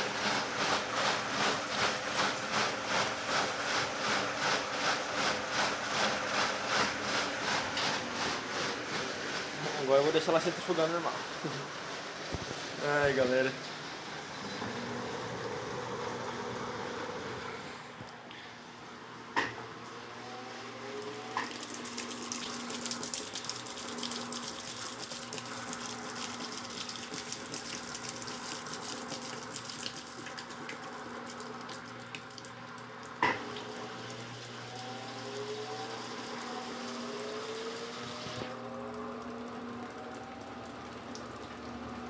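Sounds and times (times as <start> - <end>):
drain pump humming: 0.0 - 42.0.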